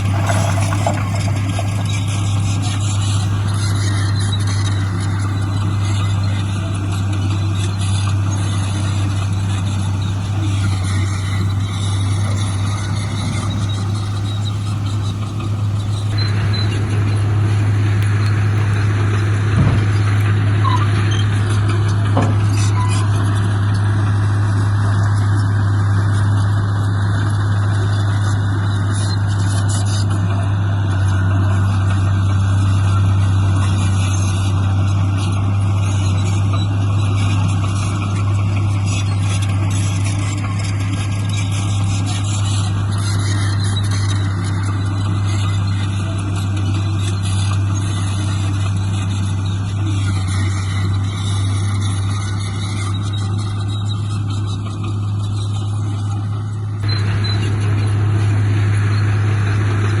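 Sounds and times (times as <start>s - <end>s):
diesel engine humming: 0.0s - 24.6s, 32.2s - 60.0s.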